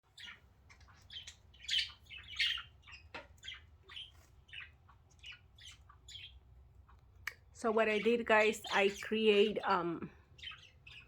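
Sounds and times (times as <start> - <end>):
budgerigars chattering: 0.1 - 6.4, 7.7 - 11.0.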